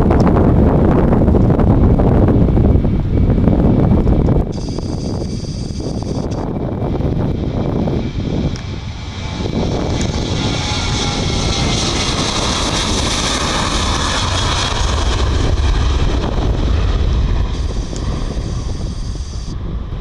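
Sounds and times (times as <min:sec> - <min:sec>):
deep rumble: 0:00.0 - 0:20.0
jet engine roar and whine: 0:00.0 - 0:20.0.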